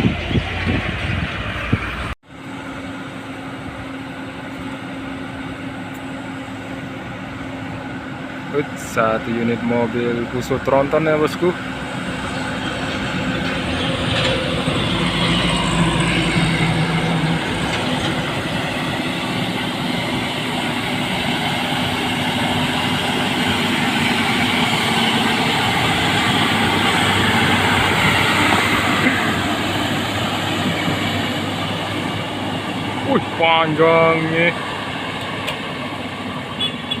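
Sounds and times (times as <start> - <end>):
diesel truck engine labouring: 0.0 - 37.0
rumbling road noise: 0.0 - 37.0.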